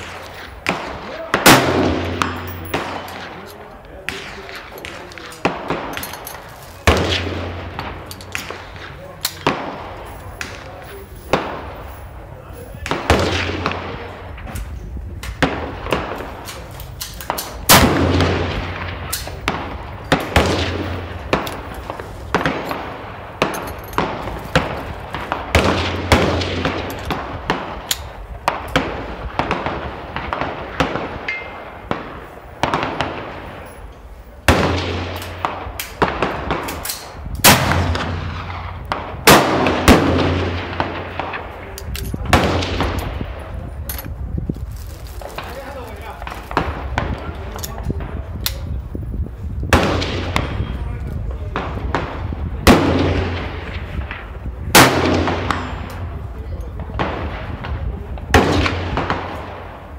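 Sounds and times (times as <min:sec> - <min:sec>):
loud close rifle shots: 0:00.0 - 0:11.9, 0:12.8 - 0:14.5, 0:15.2 - 0:33.7, 0:34.4 - 0:43.6, 0:49.7 - 0:50.8, 0:51.5 - 0:59.9
gunshots on a shooting range: 0:00.0 - 0:44.3, 0:45.2 - 0:59.9.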